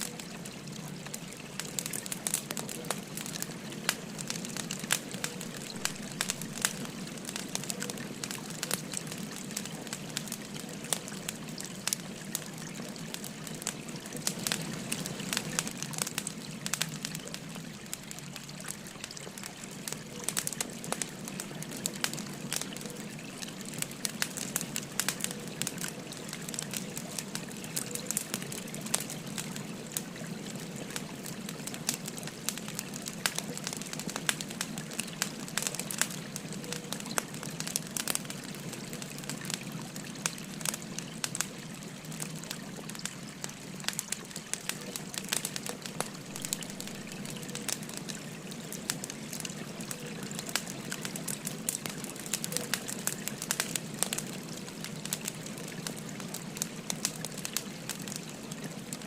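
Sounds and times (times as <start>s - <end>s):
stream trickling: 0.0s - 59.0s
wood fire crackling and popping: 0.0s - 59.0s.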